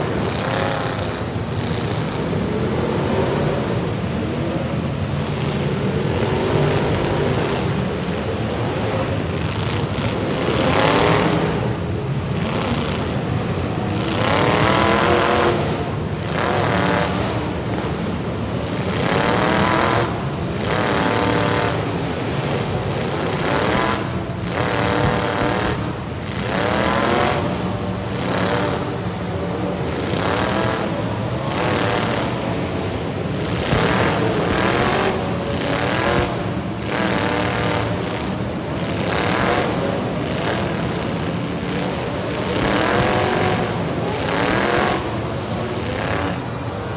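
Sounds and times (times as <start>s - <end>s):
car engines revving hard: 0.0s - 46.9s
rumble of engines running: 0.0s - 46.9s.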